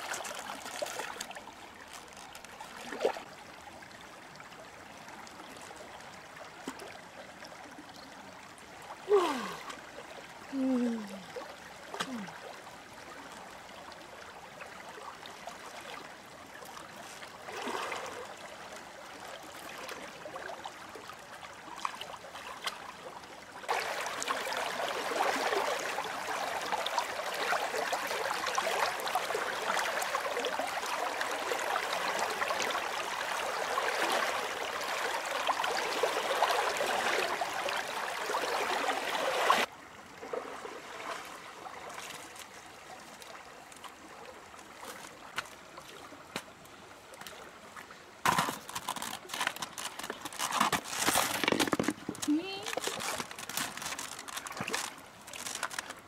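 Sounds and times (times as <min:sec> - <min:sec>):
river current rippling: 0:00.0 - 0:56.0.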